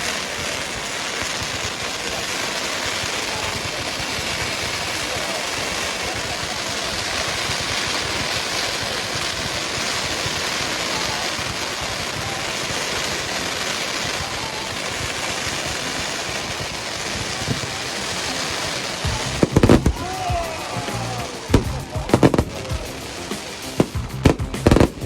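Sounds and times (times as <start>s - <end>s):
outdoor crowd hubbub: 0.0s - 25.0s.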